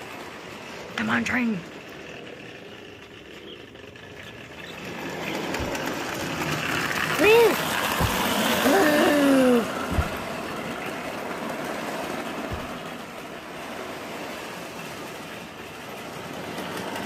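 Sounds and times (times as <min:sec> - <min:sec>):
toy train motor and wheels whirring: 0:00.0 - 0:17.0.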